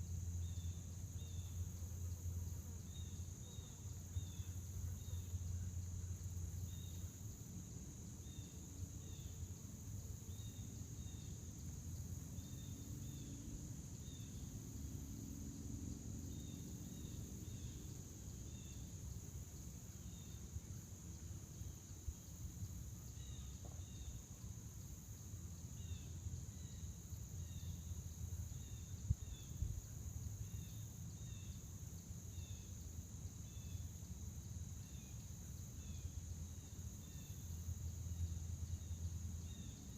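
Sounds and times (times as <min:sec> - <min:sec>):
crickets chorus: 0:00.0 - 0:39.9.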